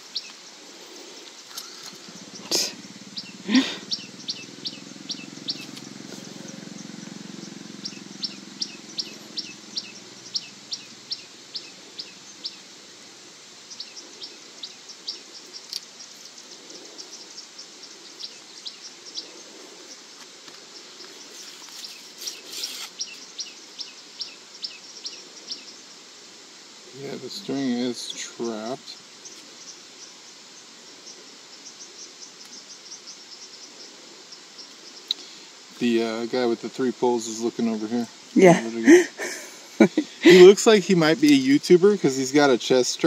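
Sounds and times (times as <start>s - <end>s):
bird chirping: 0.0s - 26.1s, 26.9s - 43.0s
outdoor background noise: 0.0s - 43.0s.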